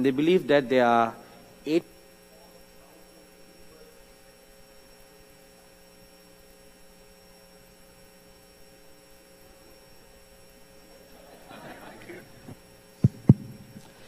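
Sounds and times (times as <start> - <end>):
faint electrical hum: 0.0 - 14.0
low room noise: 0.0 - 14.0.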